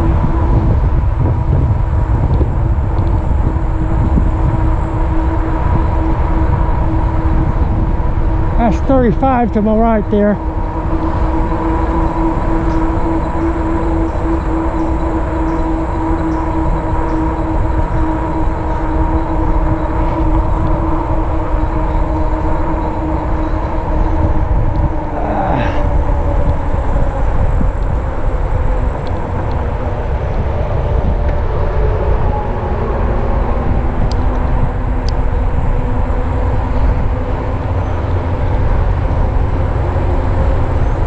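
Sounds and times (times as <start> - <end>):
electric bike motor hum: 0.0 - 41.0
wind rumble on microphone: 0.0 - 41.0.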